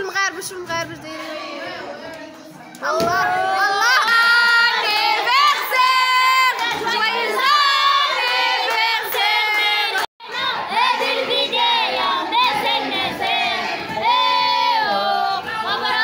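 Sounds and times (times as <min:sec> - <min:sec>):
women singing and chanting: 0:00.0 - 0:16.0.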